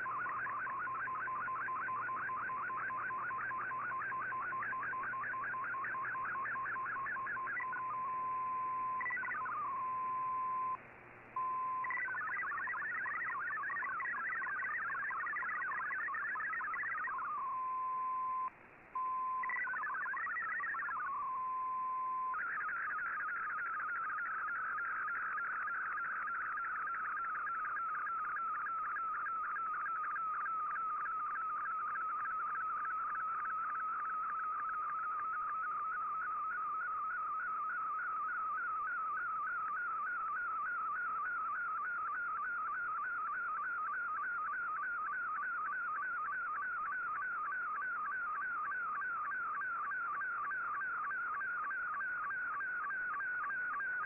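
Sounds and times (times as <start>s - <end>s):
rhythmic pulsing picture tones: 0.0s - 10.8s, 11.4s - 17.5s, 19.4s - 54.0s
warbling digital data tones: 0.0s - 10.8s, 11.4s - 54.0s
single steady radio tone: 0.0s - 54.0s.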